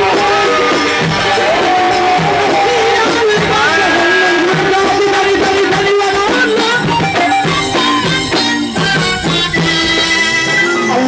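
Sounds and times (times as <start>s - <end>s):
frame drum and tambourine beats: 0.0s - 11.0s
ornamented melody: 0.0s - 11.0s.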